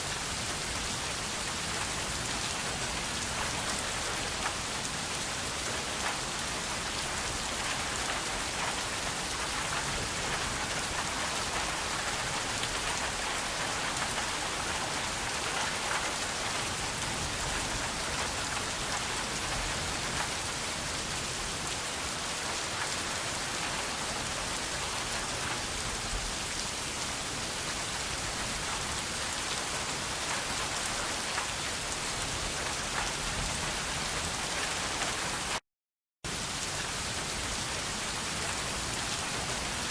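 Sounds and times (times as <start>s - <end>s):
steady rain falling: 0.0s - 35.6s, 36.3s - 39.9s.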